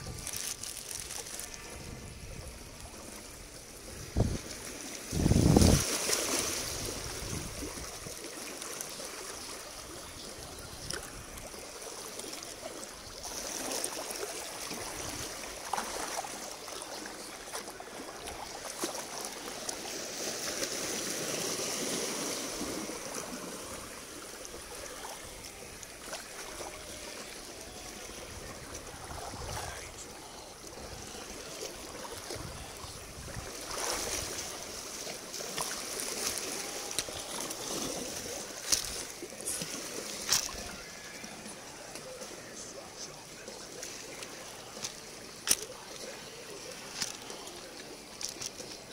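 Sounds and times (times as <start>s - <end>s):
water trickling among rocks: 0.0s - 48.9s.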